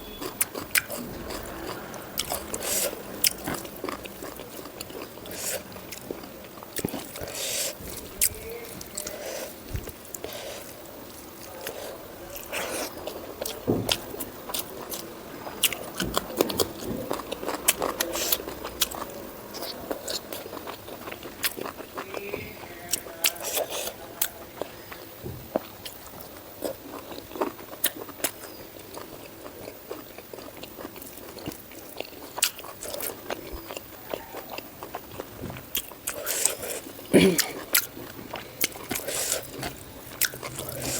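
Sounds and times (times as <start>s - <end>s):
chewing and biting: 0.0s - 40.9s.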